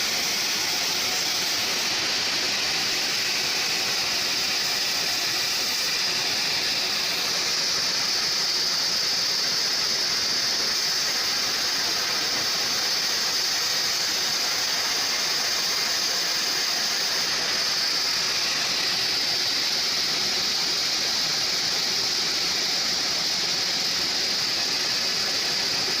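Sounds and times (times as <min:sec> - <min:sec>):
band sawmill running: 0:00.0 - 0:26.0.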